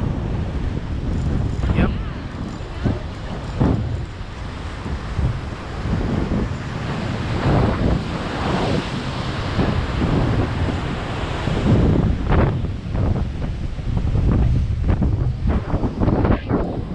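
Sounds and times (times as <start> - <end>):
ocean surf: 0.0 - 16.9
wind buffeting microphone: 0.0 - 16.9.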